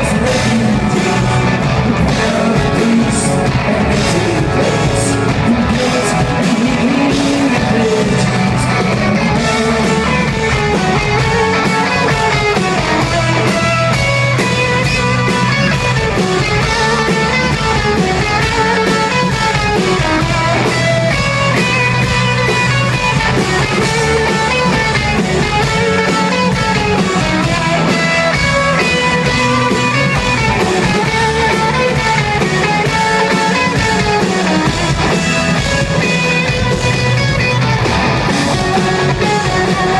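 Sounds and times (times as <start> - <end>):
guitar leading: 0.0 - 39.9
live country-rock band: 0.0 - 39.9.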